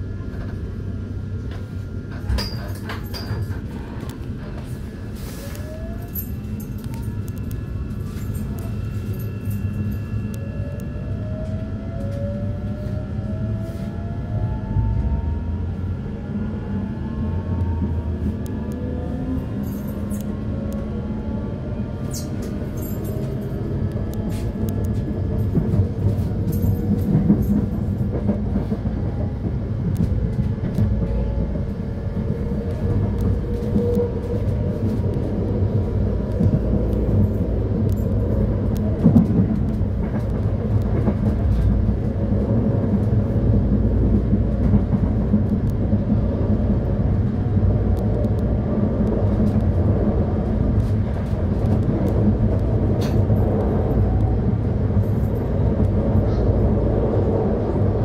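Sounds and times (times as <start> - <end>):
electric train rumbling on rails: 0.0 - 58.0.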